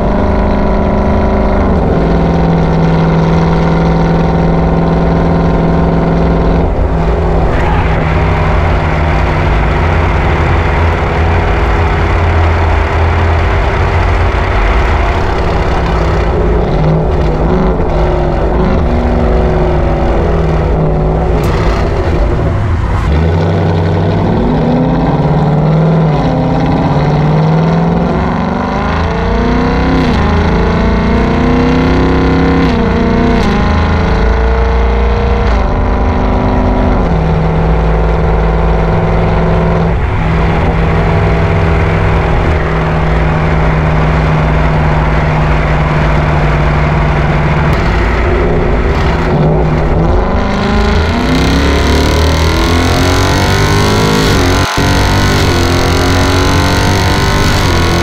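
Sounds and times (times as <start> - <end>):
car engine revving through gears: 0.0 - 58.0.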